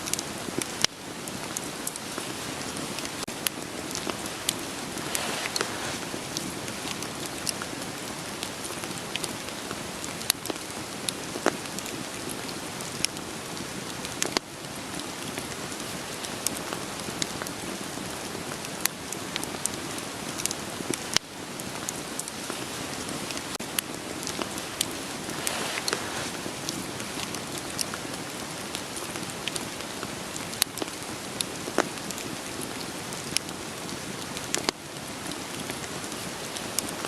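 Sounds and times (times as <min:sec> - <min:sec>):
steady rain: 0:00.0 - 0:37.0
wood fire crackling: 0:00.0 - 0:37.0.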